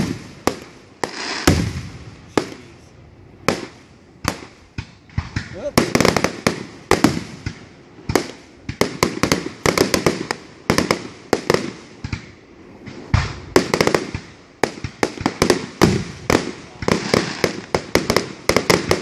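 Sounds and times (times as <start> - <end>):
deep firework booms: 0.0 - 19.0
firework shells bursting: 0.0 - 19.0.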